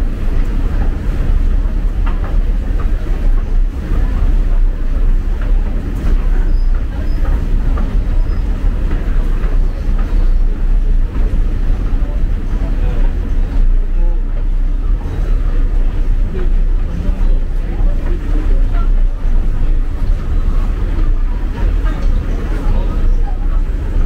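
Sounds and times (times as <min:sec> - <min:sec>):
subway train rumbling: 0:00.0 - 0:24.0
faint rail clicks: 0:00.3 - 0:24.0.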